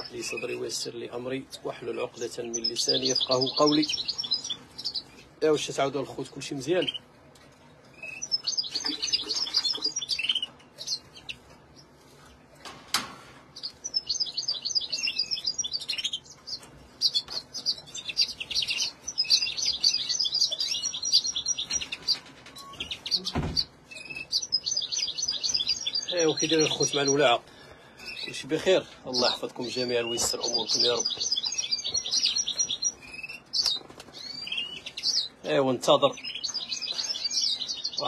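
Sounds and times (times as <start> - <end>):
finches singing: 0.0 - 7.1, 7.9 - 11.9, 13.6 - 38.0.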